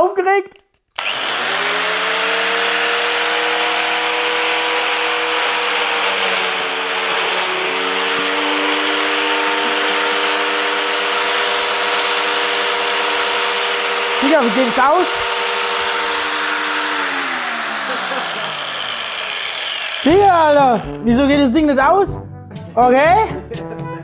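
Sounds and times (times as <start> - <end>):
angle grinder whining: 1.0 - 21.0.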